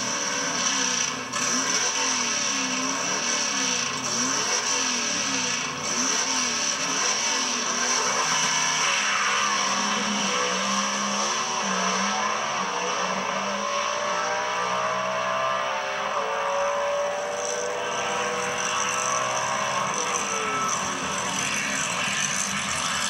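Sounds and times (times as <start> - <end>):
drag race cars at full throttle: 0.0 - 23.0.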